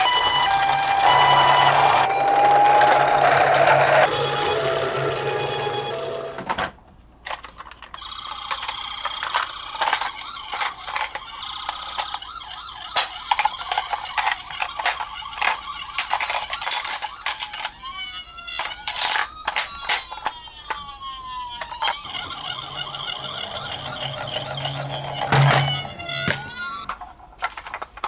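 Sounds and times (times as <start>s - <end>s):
siren wailing: 0.0s - 6.4s, 8.1s - 27.0s
toy cars clicking and clattering: 0.0s - 28.0s.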